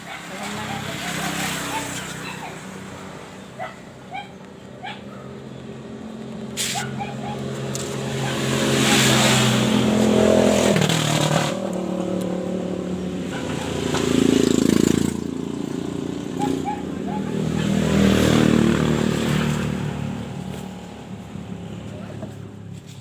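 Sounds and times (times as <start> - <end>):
motorcycle engine revving: 0.0 - 4.1, 5.3 - 22.7.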